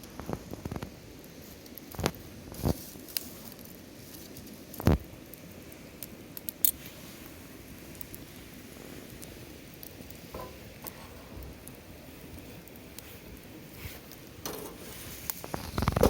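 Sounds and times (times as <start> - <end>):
campfire hissing: 0.0 - 16.0
fire crackling and popping: 0.0 - 16.0.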